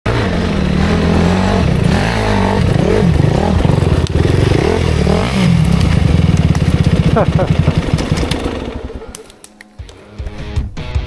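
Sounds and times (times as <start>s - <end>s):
dirt bike engine revving: 0.1s - 9.3s
engine clatter: 0.1s - 9.4s.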